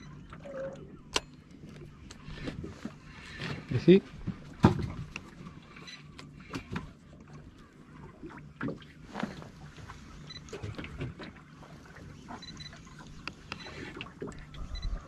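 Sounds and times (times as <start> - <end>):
water splashing against boat hull: 0.3 - 15.0.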